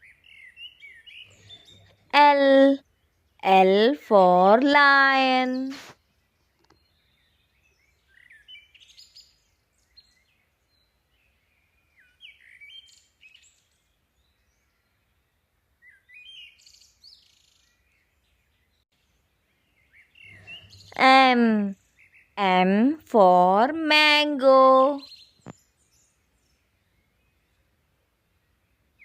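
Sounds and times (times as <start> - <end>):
birds chirping faintly: 0.0 - 29.0.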